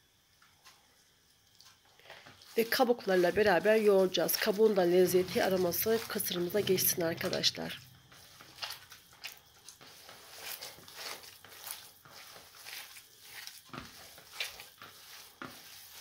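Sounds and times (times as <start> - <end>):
hand kneading moist salad: 1.4 - 16.0.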